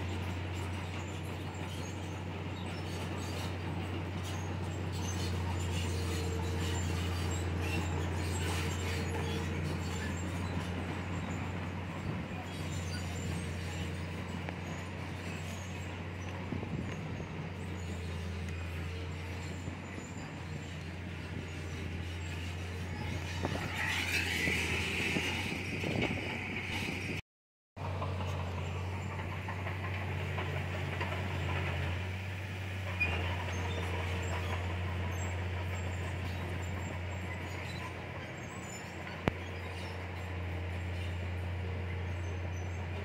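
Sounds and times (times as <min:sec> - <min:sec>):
bulldozer diesel engine running: 0:00.0 - 0:27.2, 0:27.8 - 0:43.0.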